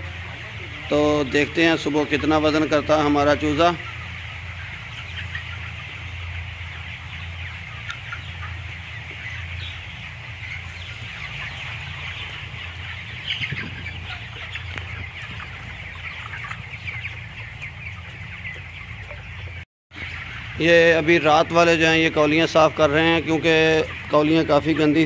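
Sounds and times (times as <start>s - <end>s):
chickens clucking and peeping: 0.0s - 25.0s.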